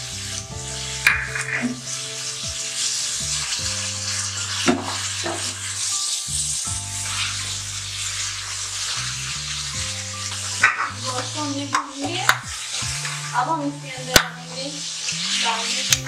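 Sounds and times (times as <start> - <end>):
meat sizzling in hot oil: 0.0 - 16.0
soft background music: 0.0 - 16.0
spatula scraping pan: 0.2 - 16.0.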